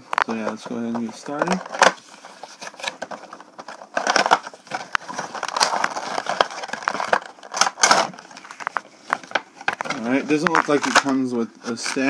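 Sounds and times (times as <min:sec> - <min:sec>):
plastic insert crinkling: 0:00.0 - 0:12.0.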